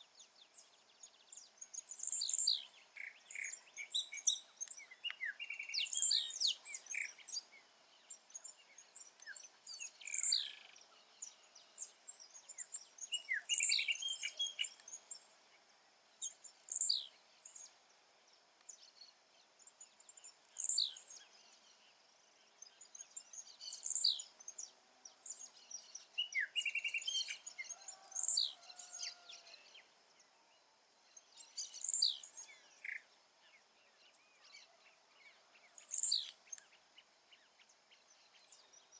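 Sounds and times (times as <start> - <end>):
bird singing high song: 0.0 - 38.9
faint calls of other birds: 0.0 - 38.9.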